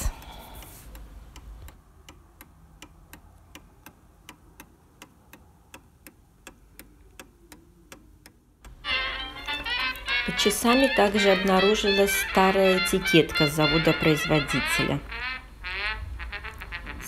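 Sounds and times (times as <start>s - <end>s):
clock ticking: 0.0s - 14.8s.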